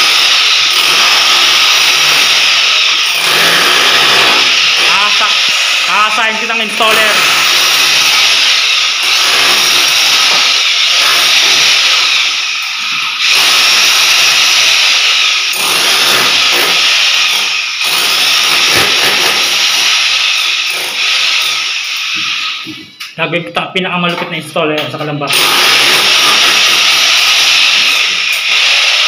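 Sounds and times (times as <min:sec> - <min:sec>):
electric drill boring through wall: 0:00.0 - 0:23.1, 0:25.3 - 0:29.0.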